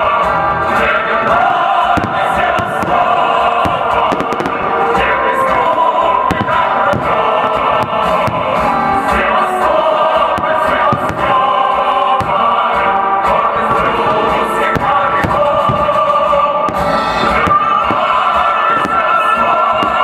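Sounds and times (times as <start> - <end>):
choral music over a sound system: 0.0 - 20.0
fireworks bangs and crackles: 0.0 - 20.0.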